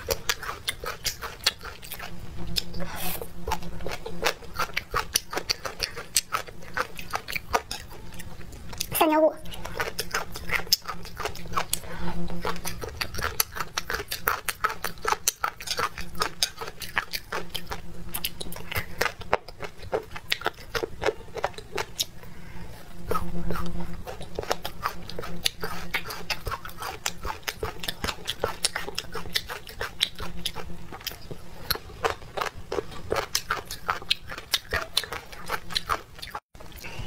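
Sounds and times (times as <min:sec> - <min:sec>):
low steady hum: 0:00.0 - 0:37.0
wet chewing: 0:00.0 - 0:37.0.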